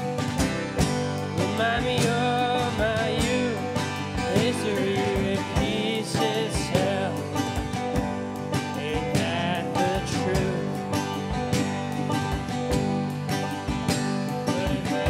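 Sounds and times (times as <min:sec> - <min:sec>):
country band playing: 0:00.0 - 0:15.0.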